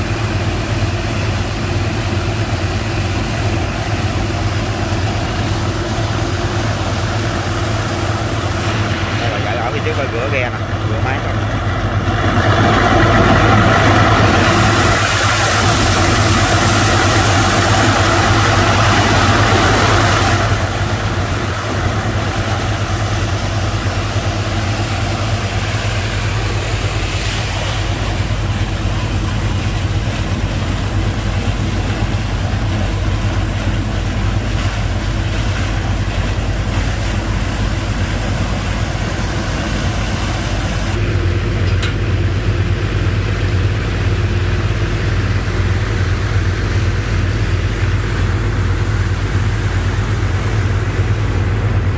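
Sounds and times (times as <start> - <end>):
boat engine droning: 0.0 - 51.9
water spraying and splashing: 0.0 - 51.9.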